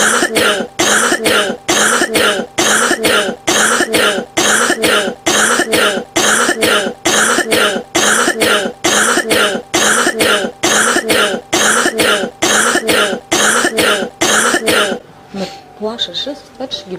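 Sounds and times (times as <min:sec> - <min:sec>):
hoarse double coughs: 0:00.0 - 0:15.0.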